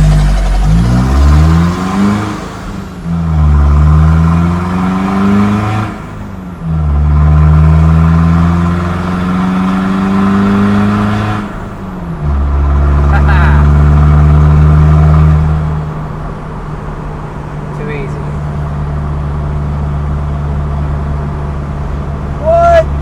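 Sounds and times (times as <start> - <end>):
diesel engine accelerating: 0.0 - 23.0.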